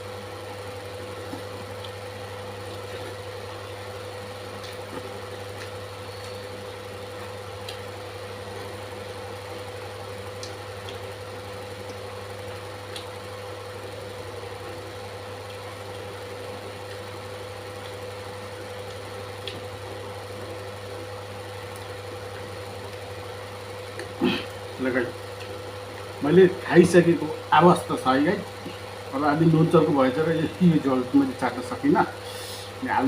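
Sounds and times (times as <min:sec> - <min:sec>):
low machine hum: 0:00.0 - 0:33.0.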